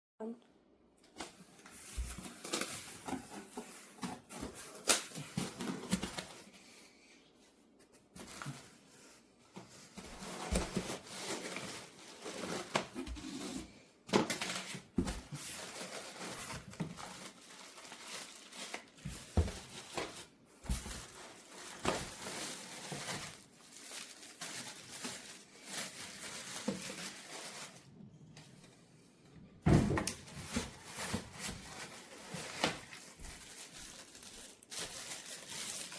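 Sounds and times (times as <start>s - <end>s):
rustling and crinkling: 1.1s - 6.8s, 7.4s - 35.9s.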